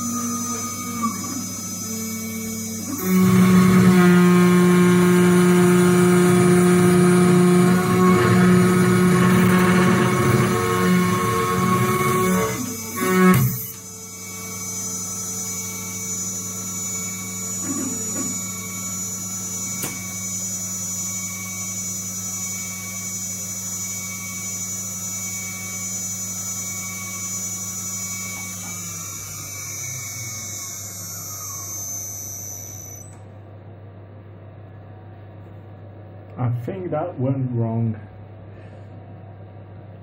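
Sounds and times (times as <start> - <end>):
mill spindle whining: 0.0 - 33.3
low electrical hum: 0.0 - 40.0.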